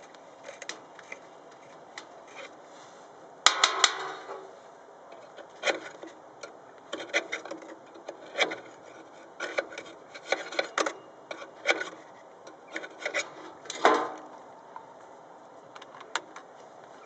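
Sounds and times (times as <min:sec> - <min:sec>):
tools scraping: 0:00.0 - 0:14.3.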